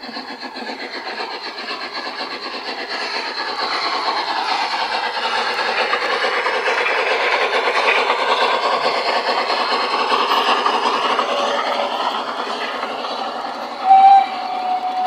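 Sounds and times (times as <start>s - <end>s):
model train wheels rolling on rails: 0.0s - 15.0s.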